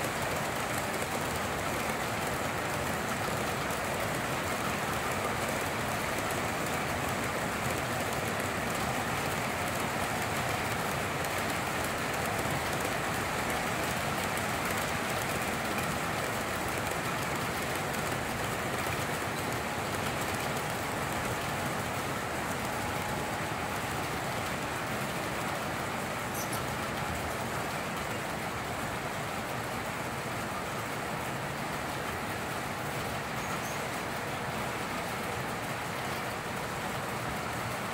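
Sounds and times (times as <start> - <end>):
model train wheels rolling on track: 0.0 - 37.9.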